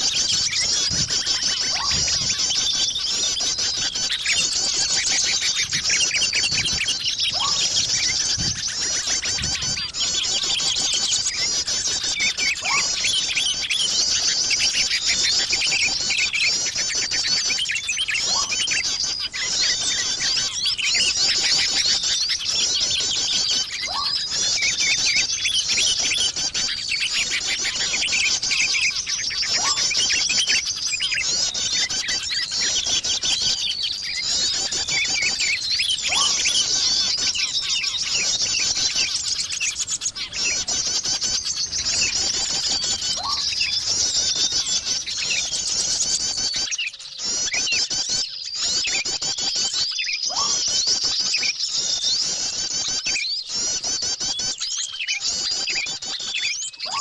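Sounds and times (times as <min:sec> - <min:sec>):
small birds chirping and twittering: 0:00.0 - 0:57.0.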